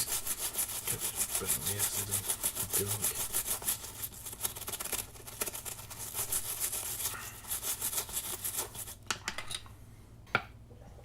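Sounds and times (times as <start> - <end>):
scrubbing on plastic casing: 0.0 - 9.0.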